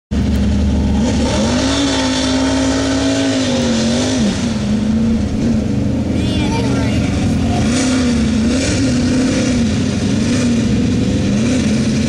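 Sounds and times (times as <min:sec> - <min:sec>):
truck engine revving hard: 0:00.1 - 0:12.0.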